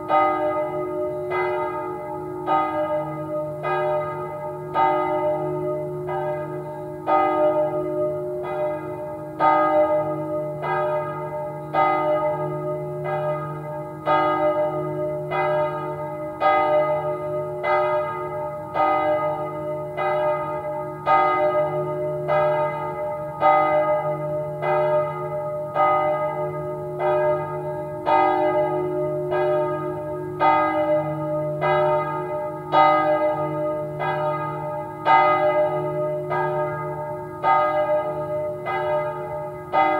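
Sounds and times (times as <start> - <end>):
church bell strikes: 0.0 - 39.9.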